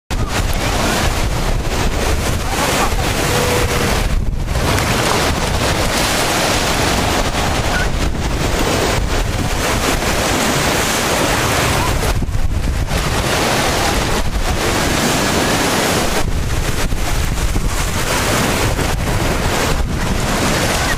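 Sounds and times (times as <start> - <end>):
small waves washing on sand: 0.1 - 20.9
wind noise on microphone: 0.1 - 20.9.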